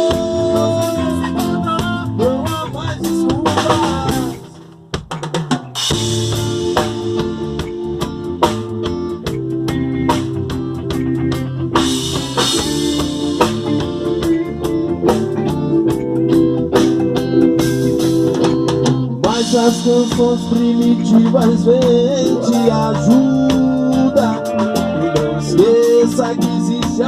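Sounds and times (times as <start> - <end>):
drum hits: 0.0 - 22.2
band playing instrumental: 0.0 - 27.0.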